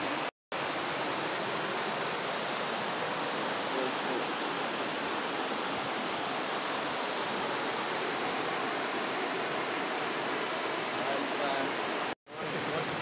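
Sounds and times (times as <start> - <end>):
water roaring over spillway: 0.0 - 13.0.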